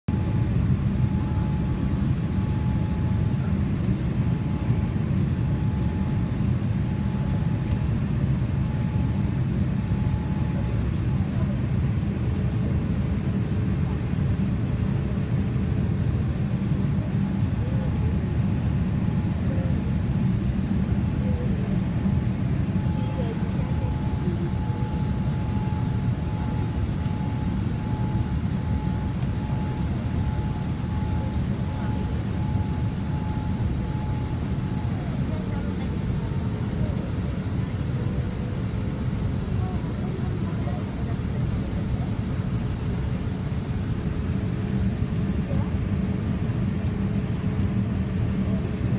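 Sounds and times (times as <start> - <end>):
aircraft cabin engine rumble: 0.1 - 48.9
faint steady whine: 0.1 - 48.9.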